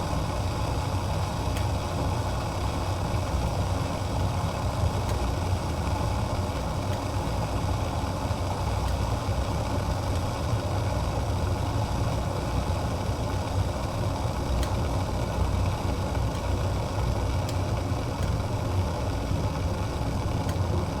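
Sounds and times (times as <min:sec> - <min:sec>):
water boiling in a pot: 0:00.0 - 0:21.0.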